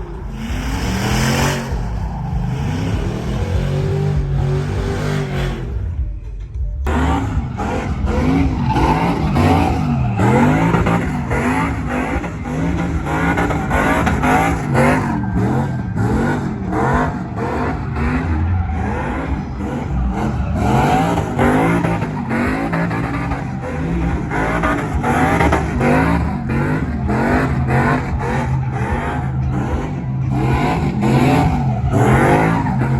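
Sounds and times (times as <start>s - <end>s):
vehicle engines revving: 0.0s - 32.9s.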